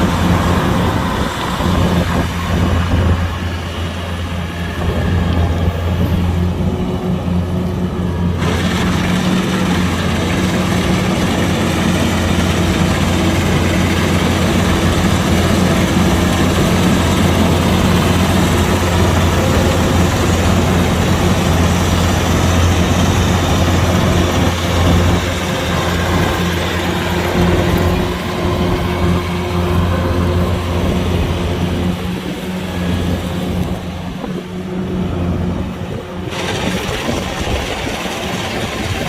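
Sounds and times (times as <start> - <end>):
diesel engine humming: 0.0 - 39.0
machine rushing noise: 0.0 - 39.0.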